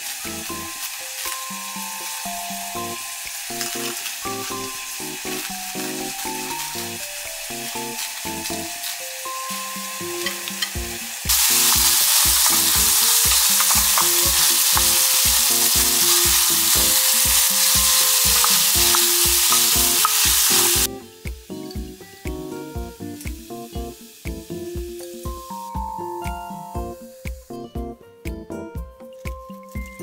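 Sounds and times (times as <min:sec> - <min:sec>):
bacon sizzling in a frying pan: 0:00.0 - 0:27.6
background music with beat: 0:00.0 - 0:30.0.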